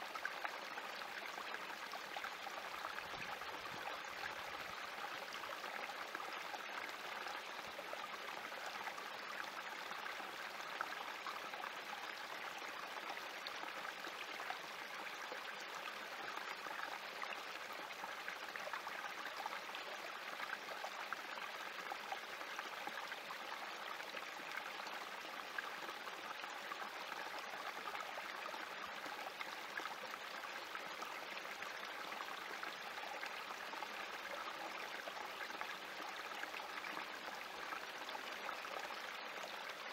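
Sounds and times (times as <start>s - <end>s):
creek trickling over rocks: 0.0s - 39.9s.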